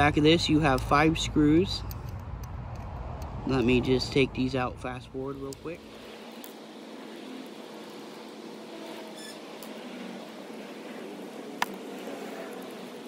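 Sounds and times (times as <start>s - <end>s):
faint fan hum: 0.0s - 13.0s.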